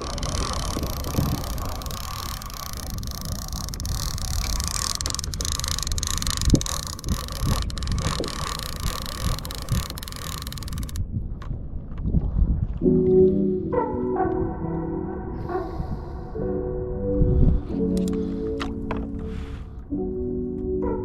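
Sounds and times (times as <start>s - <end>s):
wind buffeting microphone: 0.0s - 19.3s.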